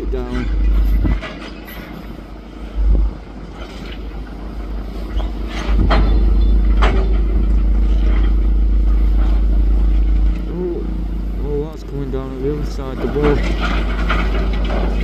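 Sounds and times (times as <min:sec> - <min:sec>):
heavy low rumble: 0:00.0 - 0:01.3, 0:02.1 - 0:15.0
excavator running: 0:00.0 - 0:15.0.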